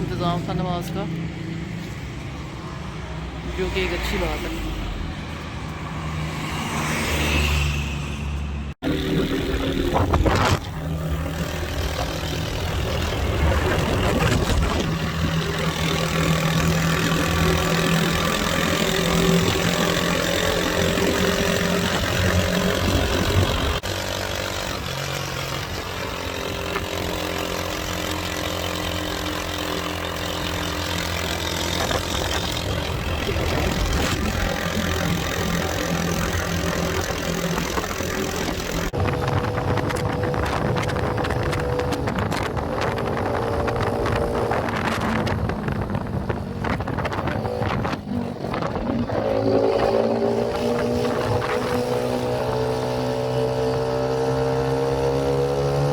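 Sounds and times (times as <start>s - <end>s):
road noise: 0.0s - 55.9s
vehicle engine running: 8.2s - 55.9s.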